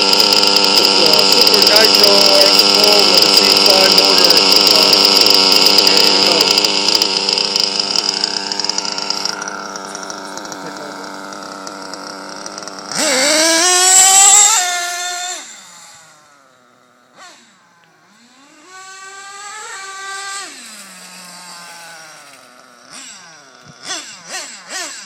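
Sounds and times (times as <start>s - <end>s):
rc car nitro engine revving: 0.0s - 25.0s.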